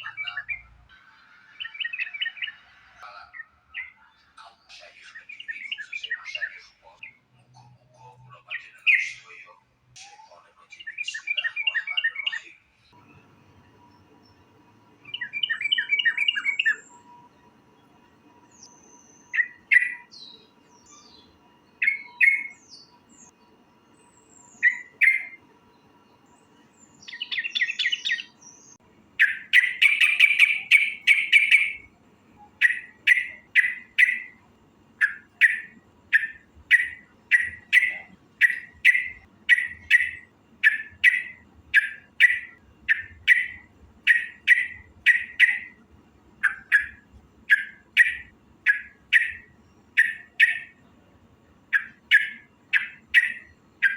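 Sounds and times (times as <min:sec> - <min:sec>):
bird chirping and chattering: 0:00.0 - 0:00.8, 0:01.6 - 0:12.6, 0:15.0 - 0:17.1, 0:18.6 - 0:23.3, 0:24.2 - 0:25.4, 0:26.9 - 0:50.8, 0:51.6 - 0:53.9.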